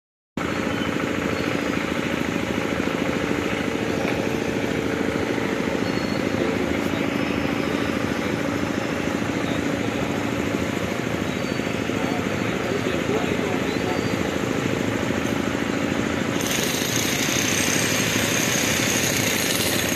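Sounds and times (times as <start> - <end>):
engine droning: 0.4 - 19.9.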